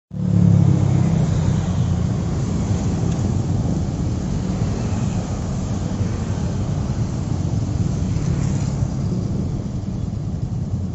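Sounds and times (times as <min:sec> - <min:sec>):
motorcycles passing on highway: 0:00.2 - 0:10.9.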